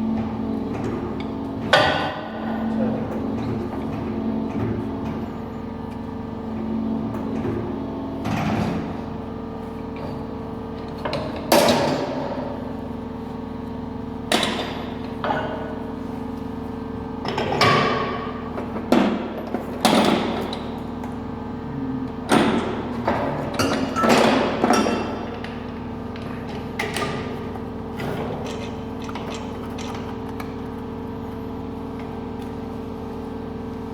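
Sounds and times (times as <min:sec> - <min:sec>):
workshop machine humming: 0:00.0 - 0:33.9.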